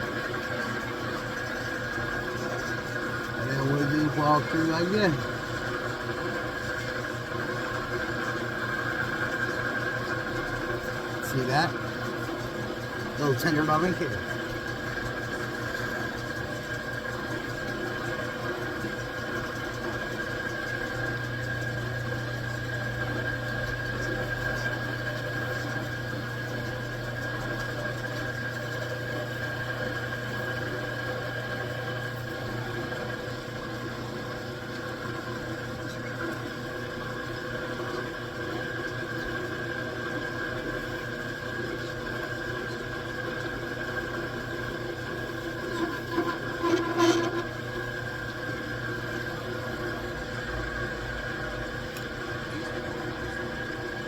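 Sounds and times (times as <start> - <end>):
metal lathe running: 0.0 - 51.6.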